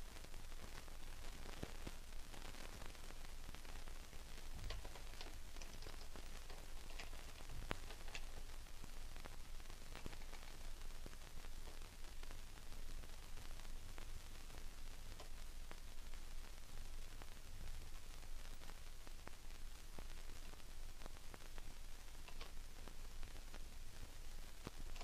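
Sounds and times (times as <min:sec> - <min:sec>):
faint clicks and crackles: 0:00.0 - 0:25.0
steady hiss: 0:00.0 - 0:25.0.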